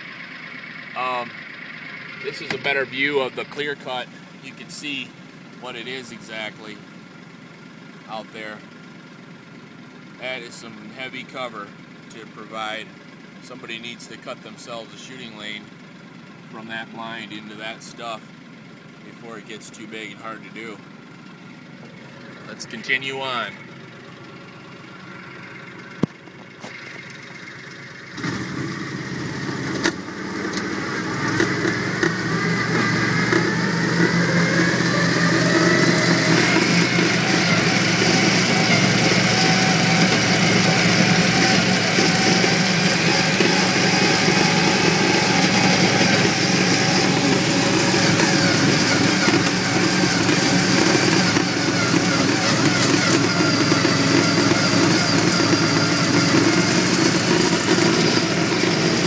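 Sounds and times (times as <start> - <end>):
vehicle engine pulling away: 0.0 - 11.1, 15.4 - 59.0.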